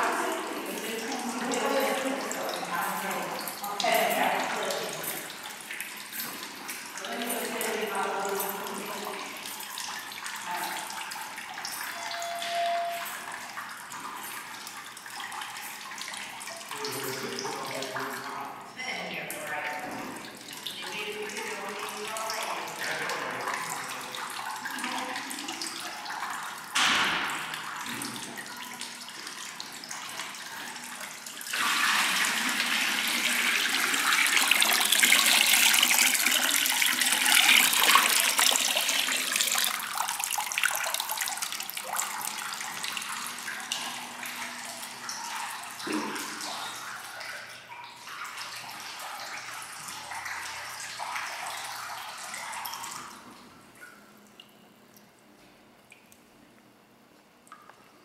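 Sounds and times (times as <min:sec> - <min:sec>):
fountain water trickling: 0:00.0 - 0:26.8, 0:27.5 - 0:53.3
water pouring and splashing: 0:00.0 - 0:54.5.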